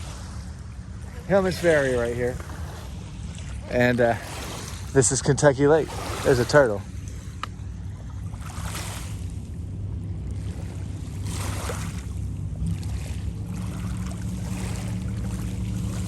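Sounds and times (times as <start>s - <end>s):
lake water lapping at shore: 0.0s - 16.0s
steady low hum: 0.0s - 16.0s.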